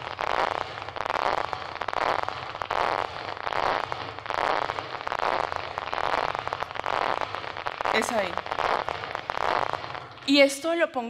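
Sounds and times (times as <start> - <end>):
crackling neuron spikes: 0.0 - 11.0.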